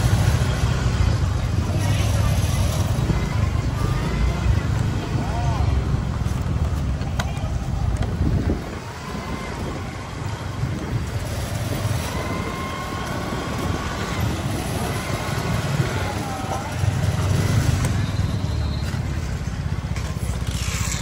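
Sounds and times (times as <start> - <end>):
motorbike engines running: 0.0 - 21.0
wind and road noise: 0.0 - 21.0.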